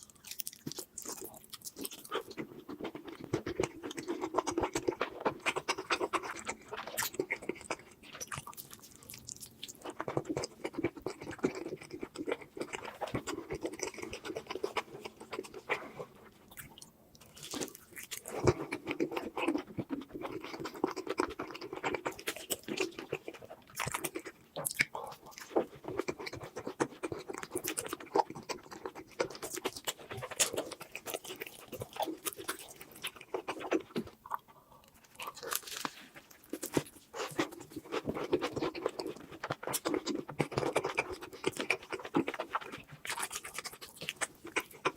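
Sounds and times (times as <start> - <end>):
chewing with wet smacks: 0.0 - 44.9.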